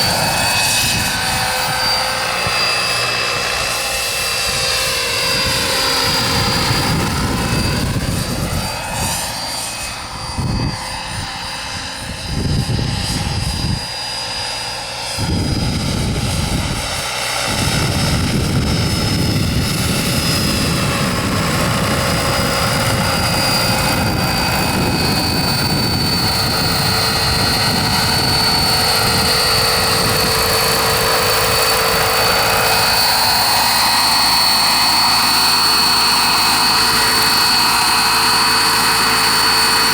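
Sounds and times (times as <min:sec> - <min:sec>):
helicopter rotor rush: 0:00.0 - 0:39.9
model gas turbine whine: 0:00.0 - 0:39.9.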